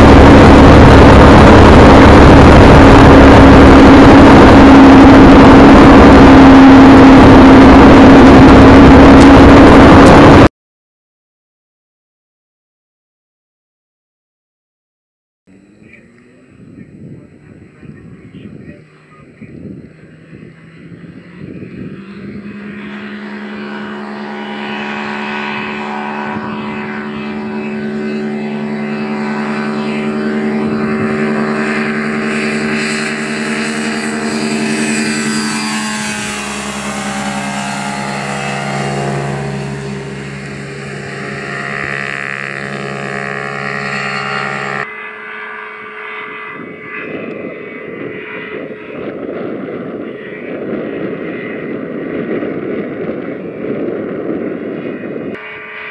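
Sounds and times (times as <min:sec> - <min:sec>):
light aircraft engine and propeller: 0:00.0 - 0:10.5, 0:15.5 - 0:55.9.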